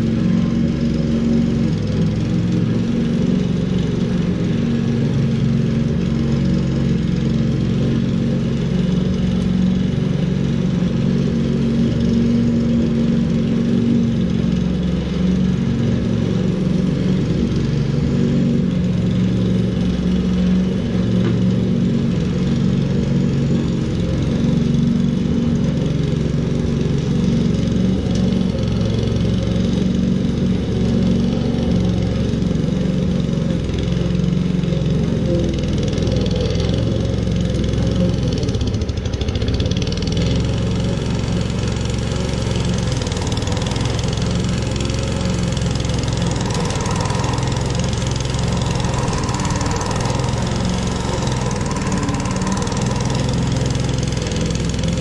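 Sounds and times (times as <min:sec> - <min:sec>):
lawn mower engine cutting grass: 0:00.0 - 0:55.0.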